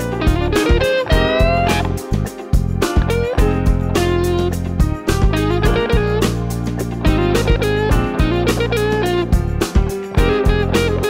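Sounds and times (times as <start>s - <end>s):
bass: 0.0s - 11.0s
guitar: 0.0s - 11.0s
steady drum beat: 0.1s - 11.0s.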